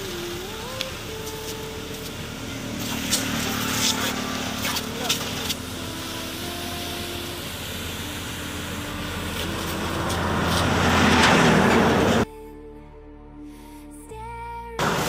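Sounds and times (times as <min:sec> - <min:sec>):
machine hum: 0:00.0 - 0:12.2
water jet spraying: 0:00.0 - 0:12.2.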